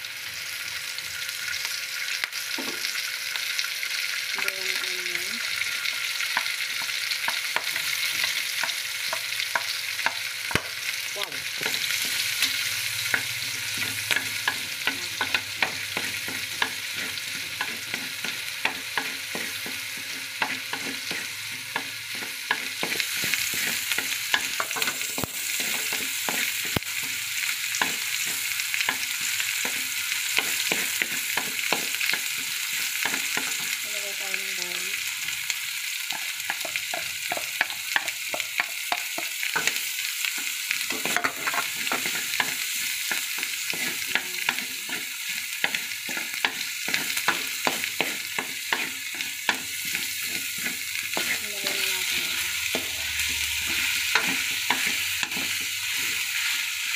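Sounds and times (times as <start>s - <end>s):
meat sizzling in a pan: 0.0s - 56.9s.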